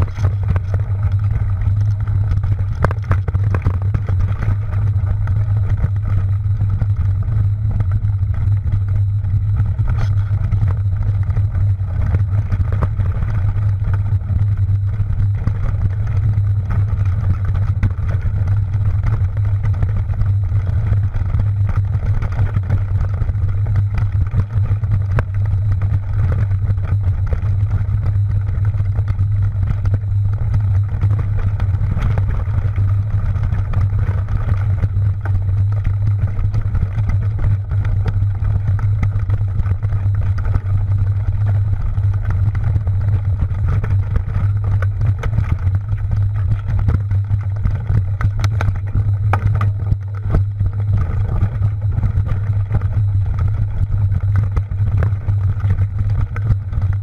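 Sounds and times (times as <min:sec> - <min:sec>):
bike clicks and rattles: 0:00.0 - 0:57.0
wind and rolling rumble: 0:00.0 - 0:57.0.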